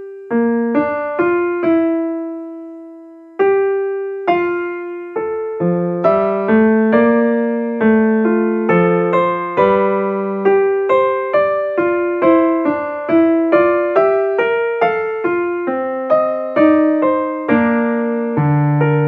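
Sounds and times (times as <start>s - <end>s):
keyboard playing gentle melody: 0.0s - 19.0s.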